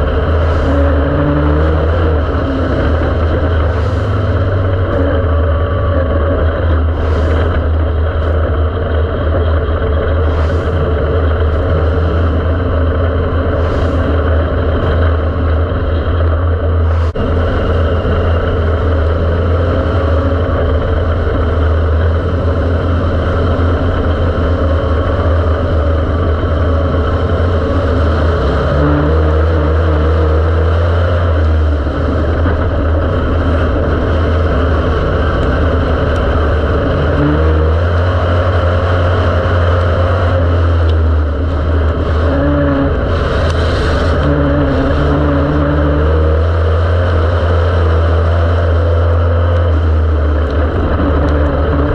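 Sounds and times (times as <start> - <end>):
race car engine under load: 0.0 - 51.9.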